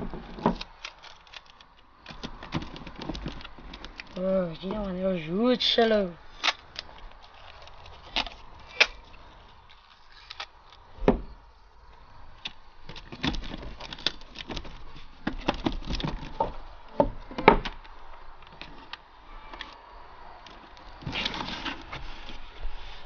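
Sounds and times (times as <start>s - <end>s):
packing tape and cardboard handling: 0.0s - 4.9s, 6.3s - 10.9s, 12.4s - 19.8s, 20.5s - 23.0s.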